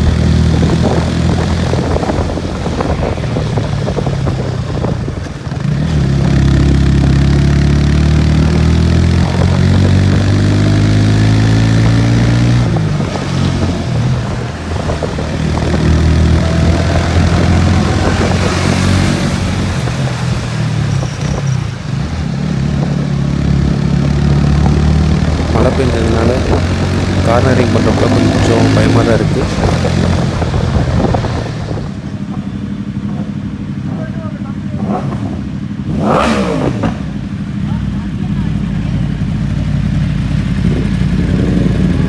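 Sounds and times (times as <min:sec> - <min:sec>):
wind rushing over microphone: 0:00.0 - 0:32.3, 0:40.1 - 0:42.0
motorcycle engines accelerating: 0:00.0 - 0:42.0.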